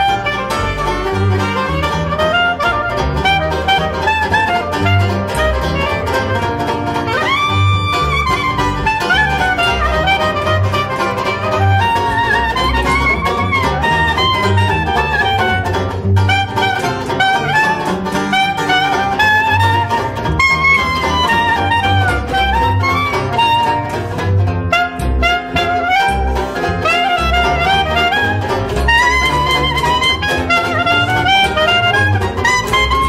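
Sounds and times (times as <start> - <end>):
clarinet melody: 0.0 - 33.0
plucked double bass: 0.0 - 33.0
strummed banjo: 0.0 - 33.0.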